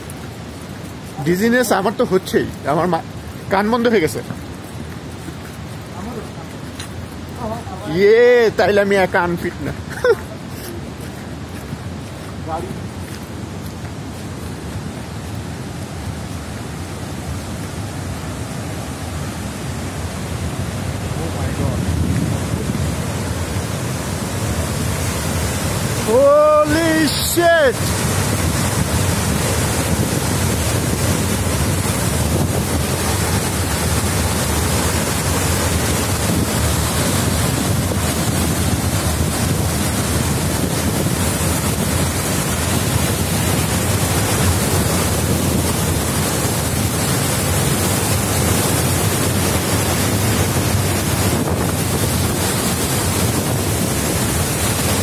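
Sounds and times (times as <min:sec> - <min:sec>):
waterfall rushing onto rocks: 0:00.0 - 0:55.0.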